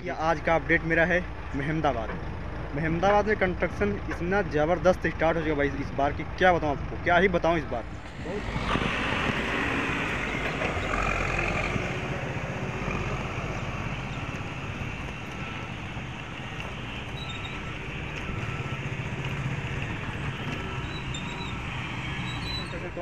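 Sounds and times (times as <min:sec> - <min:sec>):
heavy machinery diesel engines: 0:00.0 - 0:23.0.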